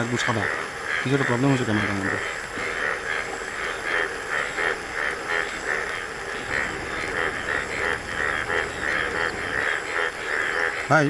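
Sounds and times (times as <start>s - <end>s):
frogs croaking: 0.0s - 11.0s
rain: 0.0s - 11.0s.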